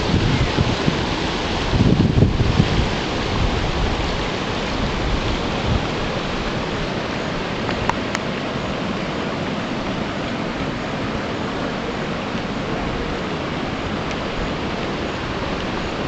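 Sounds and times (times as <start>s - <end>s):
rushing floodwater: 0.0s - 16.0s
wind rumble on microphone: 0.0s - 16.0s.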